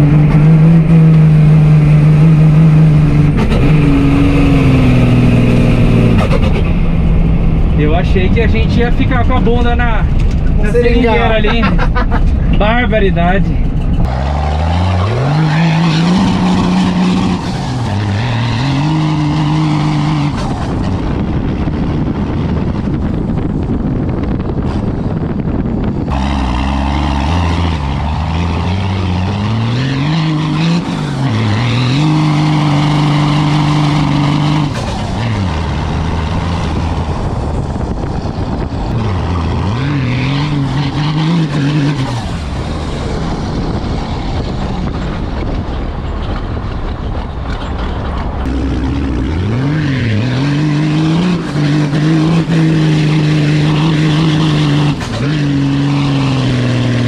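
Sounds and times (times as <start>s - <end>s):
diesel truck engine accelerating: 0.0s - 57.0s
tyres rushing on dirt: 0.0s - 57.0s.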